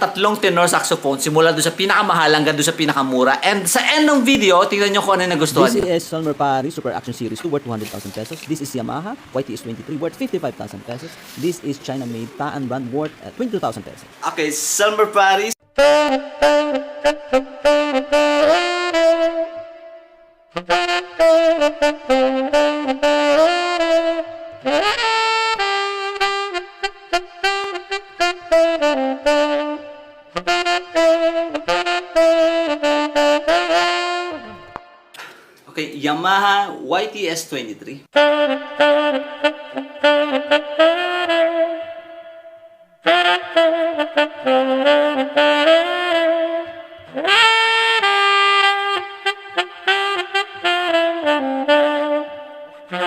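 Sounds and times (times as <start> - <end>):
tenor saxophone melody: 0.0 - 35.2, 38.1 - 53.0.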